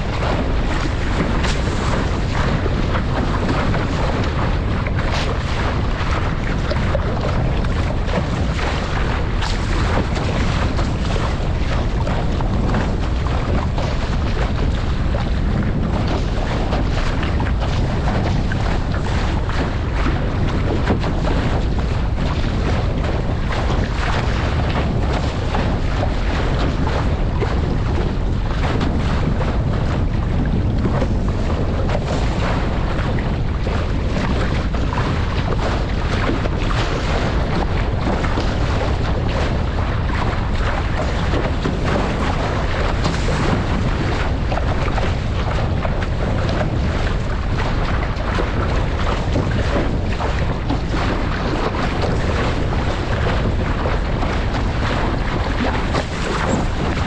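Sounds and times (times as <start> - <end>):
water rushing along a hull: 0.0 - 57.0
wind buffeting microphone: 0.0 - 57.0.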